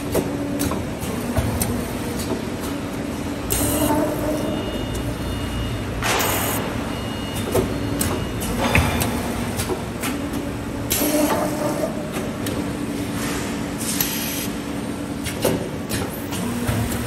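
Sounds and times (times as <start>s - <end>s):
tube bending machine humming: 0.0s - 17.0s.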